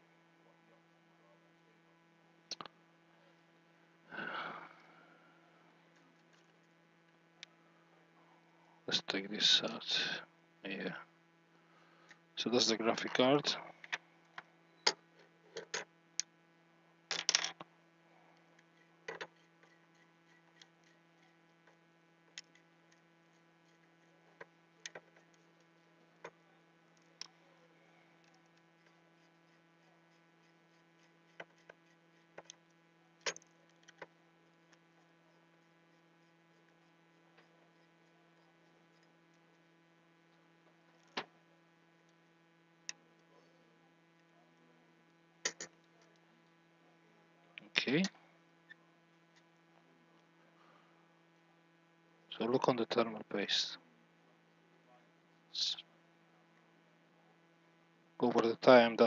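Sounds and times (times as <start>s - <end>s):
steady electrical hum: 0.0s - 59.0s.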